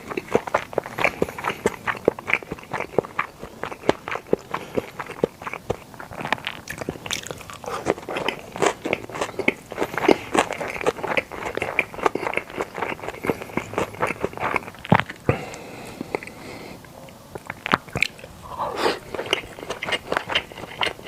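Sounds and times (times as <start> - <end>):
wet mouth chewing clicks: 0.0 - 21.0.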